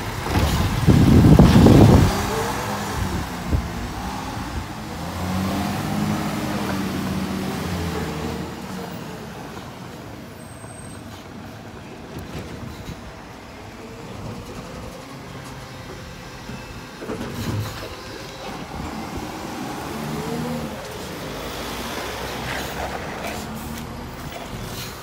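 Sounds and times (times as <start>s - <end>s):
diesel engine revving: 0.0s - 10.8s, 13.8s - 25.0s.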